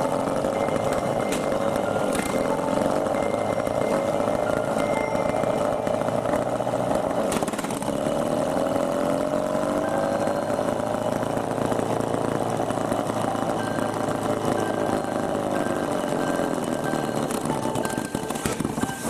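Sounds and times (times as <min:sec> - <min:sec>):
rotary engine running: 0:00.0 - 0:19.0.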